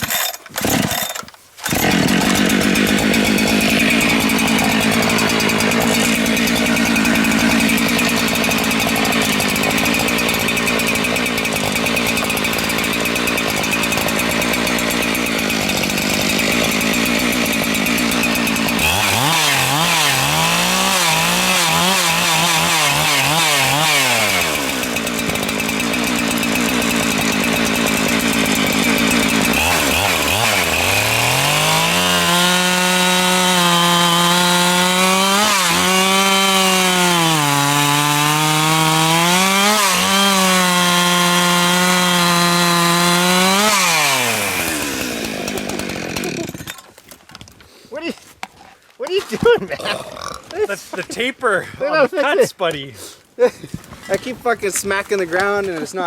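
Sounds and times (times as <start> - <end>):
chainsaw cutting log: 0.0 - 47.7.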